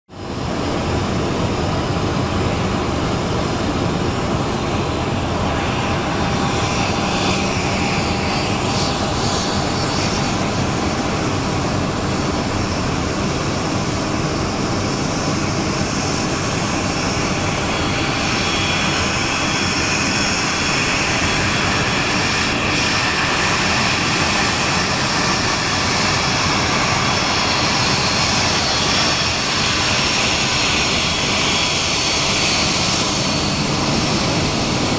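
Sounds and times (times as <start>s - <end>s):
jet engines whining: 0.2s - 34.9s.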